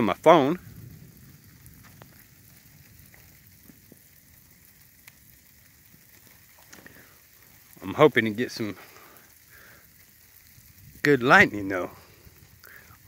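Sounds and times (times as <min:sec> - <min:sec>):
light rain patter: 0:00.0 - 0:13.0
rain drop ticks: 0:00.0 - 0:13.0.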